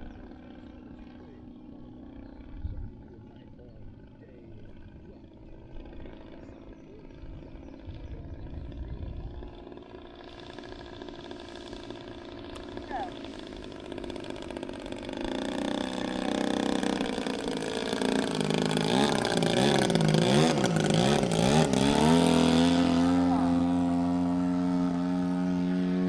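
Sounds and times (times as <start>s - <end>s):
model plane engine in flight: 0.0s - 26.0s.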